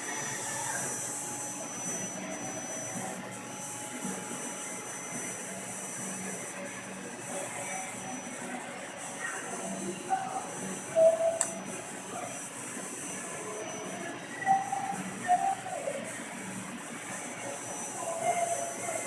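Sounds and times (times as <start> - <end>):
lathe whirring with high whine: 0.0 - 19.0.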